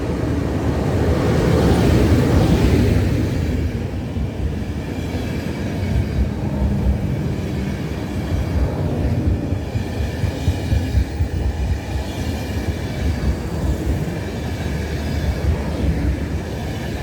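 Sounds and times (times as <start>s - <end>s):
train wheels rumbling and clacking: 0.0s - 17.0s.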